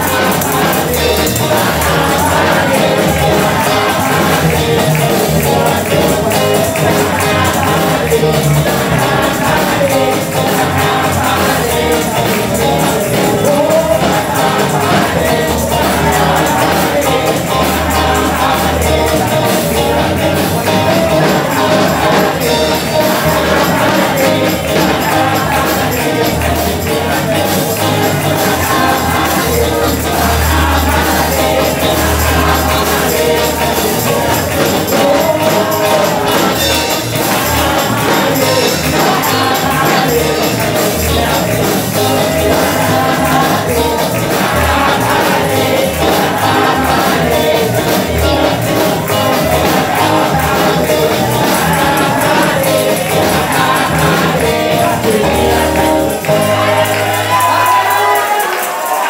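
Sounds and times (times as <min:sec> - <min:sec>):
group singing gospel song: 0:00.0 - 0:59.0
rhythmic percussion: 0:00.0 - 0:59.0.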